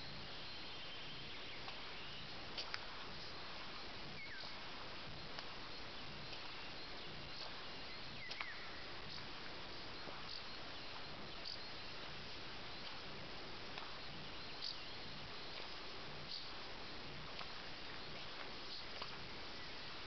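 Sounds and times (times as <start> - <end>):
faint high-pitched chirps: 0.0 - 20.0
steady hiss: 0.0 - 20.0.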